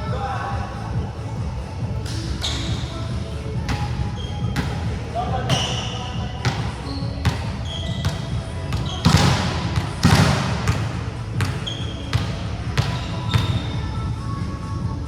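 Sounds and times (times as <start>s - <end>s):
murmur of voices: 0.0s - 14.2s
basketballs bouncing on hardwood: 2.0s - 14.5s
sneaker squeaks: 2.0s - 14.6s.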